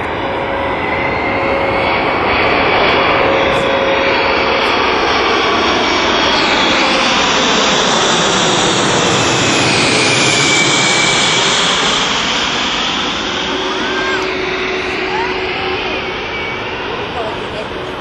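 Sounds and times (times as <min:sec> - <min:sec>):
jet aircraft passing overhead: 0:00.0 - 0:18.0.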